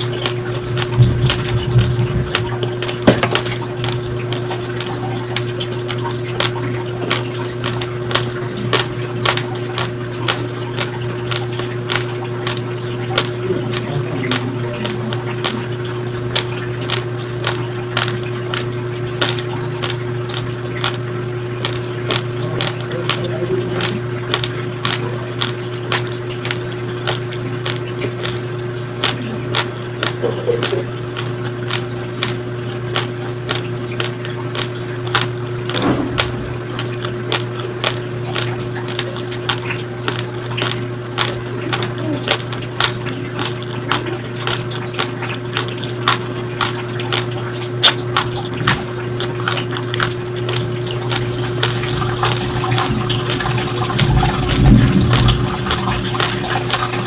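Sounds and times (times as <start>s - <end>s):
chewing crunchy rice grains: 0.0s - 57.0s.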